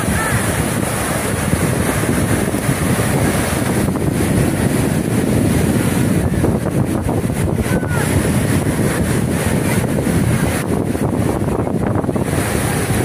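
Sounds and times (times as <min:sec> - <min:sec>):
surf washing up a beach: 0:00.0 - 0:13.0
wind noise on microphone: 0:00.0 - 0:13.0.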